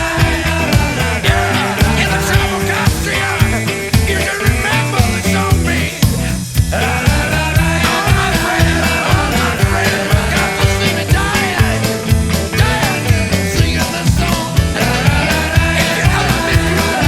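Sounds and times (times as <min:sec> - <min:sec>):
blues-rock band playing: 0:00.0 - 0:17.0
drums steady beat: 0:00.0 - 0:17.0.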